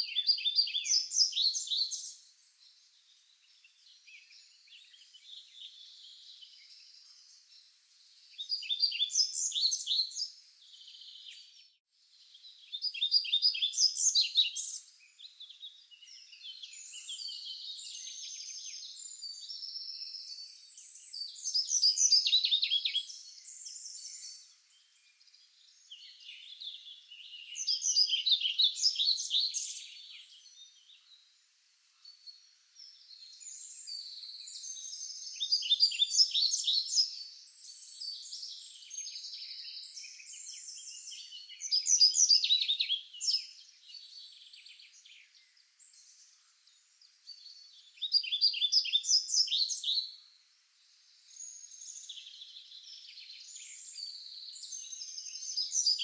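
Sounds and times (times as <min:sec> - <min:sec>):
soft bird chirping: 0:00.0 - 0:56.0.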